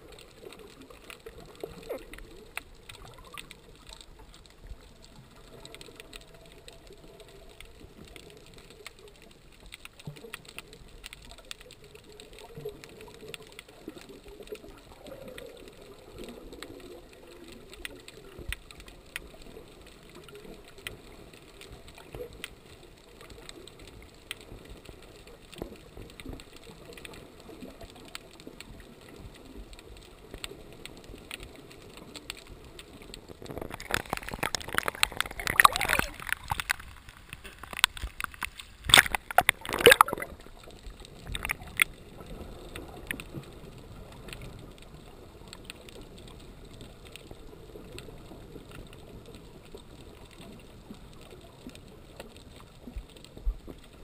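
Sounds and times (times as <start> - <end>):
faint clicks and crackles: 0.0 - 54.0
muffled underwater wash: 0.0 - 54.0
water splashing: 0.0 - 54.0.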